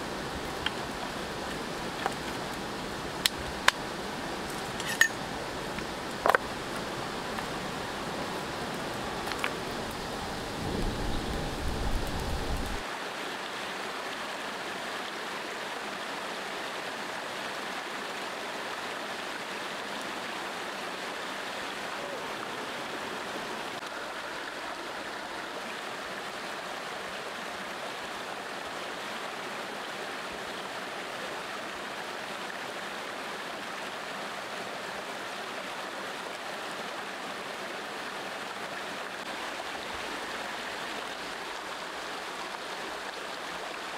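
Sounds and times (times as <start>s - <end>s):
river rushing over stones: 0.0s - 43.9s.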